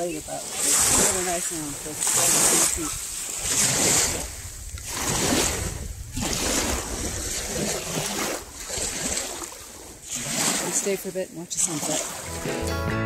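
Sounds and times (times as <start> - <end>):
wind rumbling on microphone: 0.0 - 11.3
waves lapping on pebble shore: 0.0 - 12.4.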